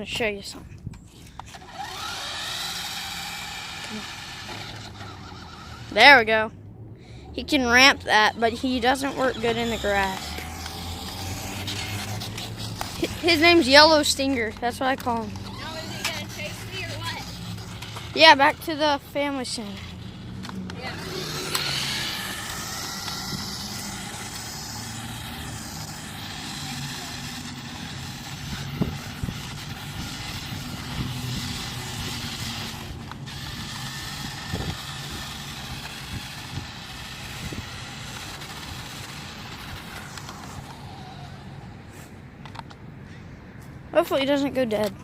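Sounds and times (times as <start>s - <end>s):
toy car electric motor whining: 0.0s - 6.4s, 7.2s - 42.7s.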